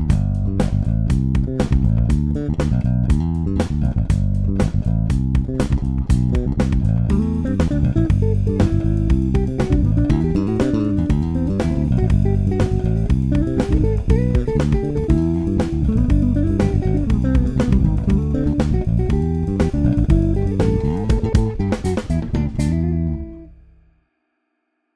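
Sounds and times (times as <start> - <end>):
electric bass plucked notes: 0.0 - 23.6.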